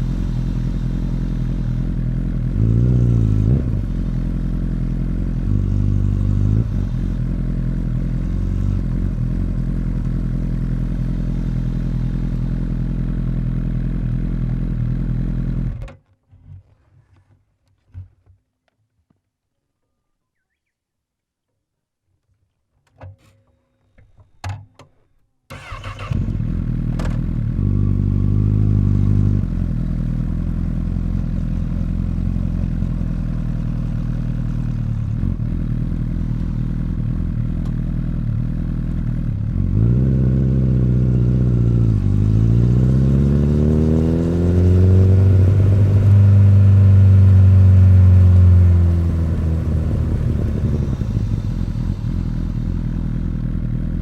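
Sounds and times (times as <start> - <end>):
motorcycle engine idling and revving: 0.0 - 16.0, 25.5 - 54.0.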